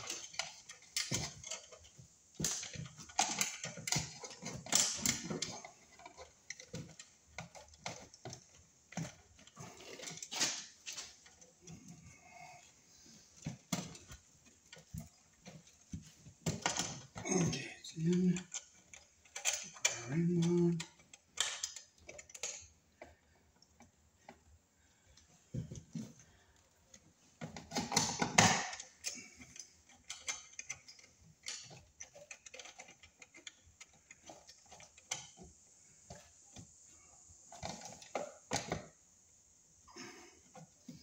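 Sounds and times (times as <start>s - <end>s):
cable clicking and scraping: 0.0s - 24.5s, 25.1s - 38.7s.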